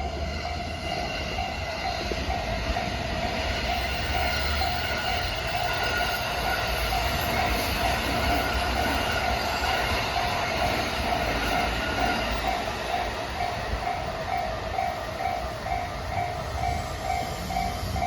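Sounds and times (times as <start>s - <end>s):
level-crossing alarm ringing: 0.0s - 18.0s
train wheels rumbling on rails: 0.0s - 18.0s.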